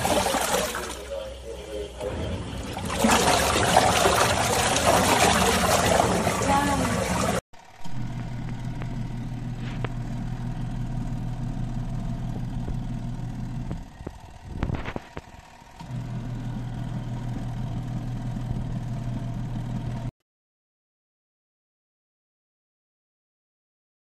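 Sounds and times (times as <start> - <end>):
washing machine motor humming: 0.0 - 20.1.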